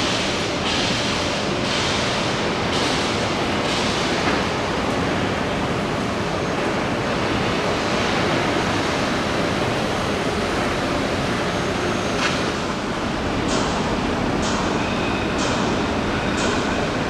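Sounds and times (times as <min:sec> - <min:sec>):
rushing shipyard background noise: 0:00.0 - 0:17.0.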